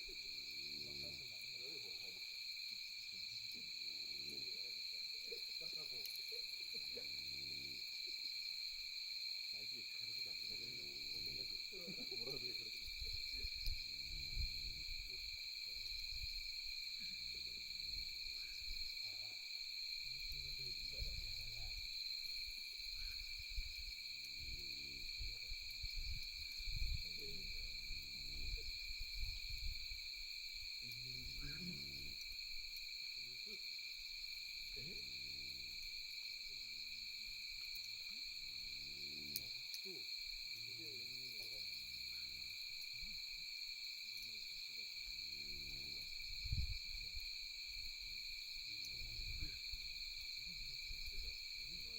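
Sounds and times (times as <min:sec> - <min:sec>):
faint low irregular sounds: 0:00.0 - 0:51.9
insects trilling: 0:00.0 - 0:51.9.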